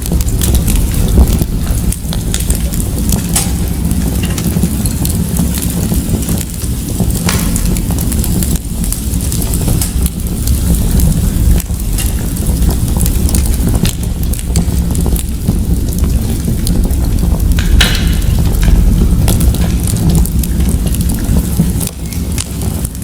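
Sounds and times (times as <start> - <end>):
fireplace fire crackling: 0.0 - 23.0
low rumble: 0.0 - 23.0.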